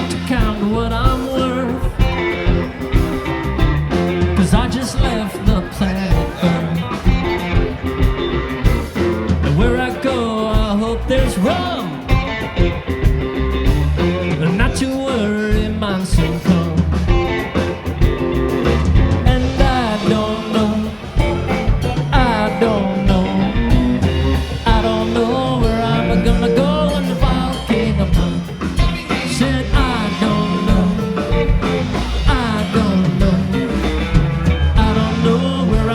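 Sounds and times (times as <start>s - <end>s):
bass: 0.0s - 35.9s
electric guitar lead line: 0.0s - 35.9s
steady drum beat: 0.0s - 35.9s.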